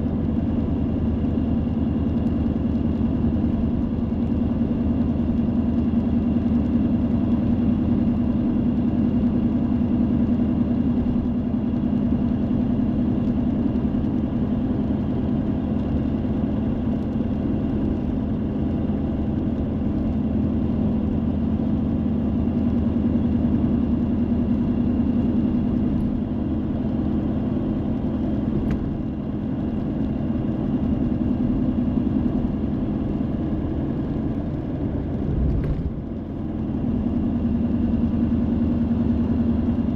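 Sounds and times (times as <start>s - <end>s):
car engine and tyre drone: 0.0s - 39.9s.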